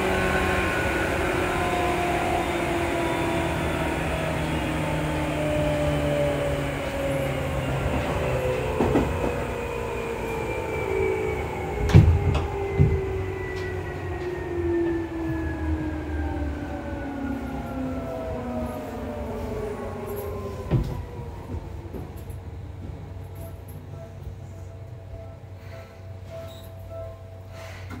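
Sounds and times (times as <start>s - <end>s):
electric train motor whine: 0.0s - 25.4s.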